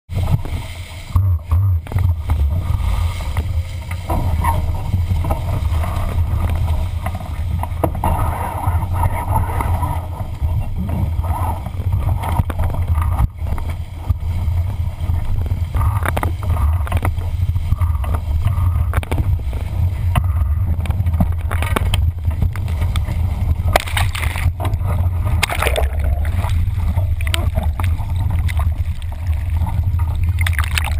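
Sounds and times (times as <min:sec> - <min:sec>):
water splashing along hull: 0:00.1 - 0:30.9
wind buffeting microphone: 0:00.1 - 0:30.9.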